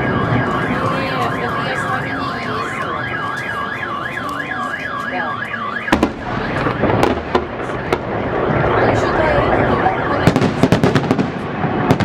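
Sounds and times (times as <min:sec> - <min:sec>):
car alarm warbling: 0:00.0 - 0:11.0.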